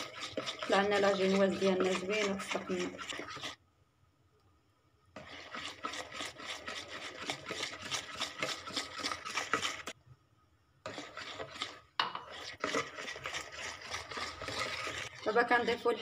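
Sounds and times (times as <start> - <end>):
whisk beating batter in plastic bowl: 0.0 - 3.6, 5.1 - 10.0, 10.8 - 16.0.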